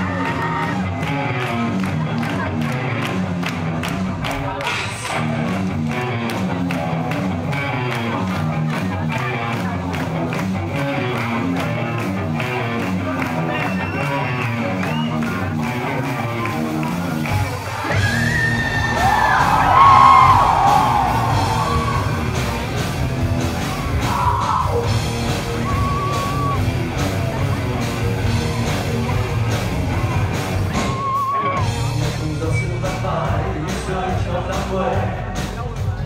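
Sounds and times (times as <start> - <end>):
pulsing bass line: 0.0 - 31.0
rock band playing: 0.0 - 36.0
high bending lead guitar line: 1.0 - 34.3.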